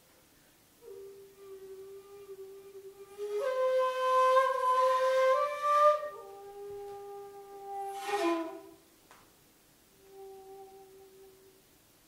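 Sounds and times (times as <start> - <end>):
wind instrument long held notes: 0.8 - 8.9, 10.0 - 11.7.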